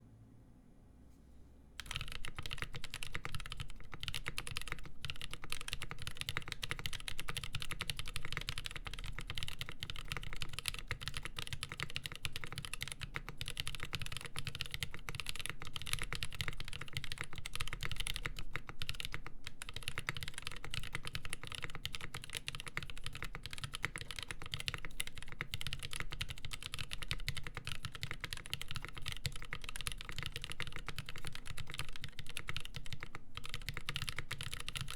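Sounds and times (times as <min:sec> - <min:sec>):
fast mechanical keyboard typing: 0:01.8 - 0:34.9.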